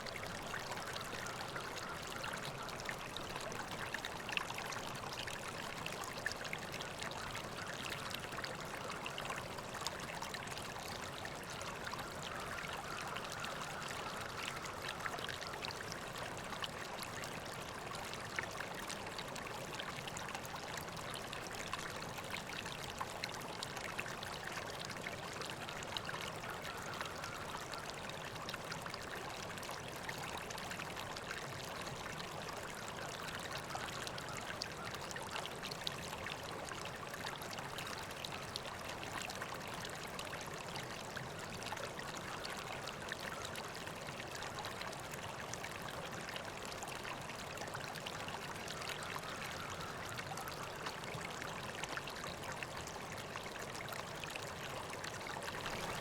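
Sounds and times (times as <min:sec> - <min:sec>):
river water flowing and splashing: 0:00.0 - 0:56.0.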